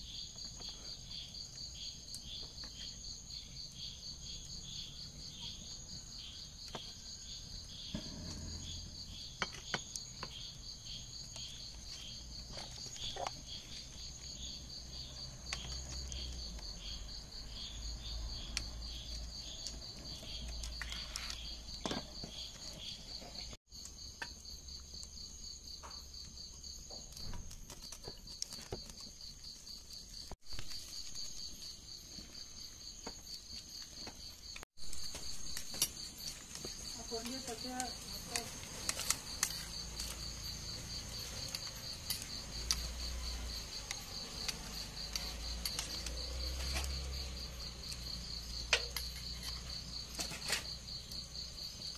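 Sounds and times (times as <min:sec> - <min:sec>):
crickets trilling: 0:00.0 - 0:51.9.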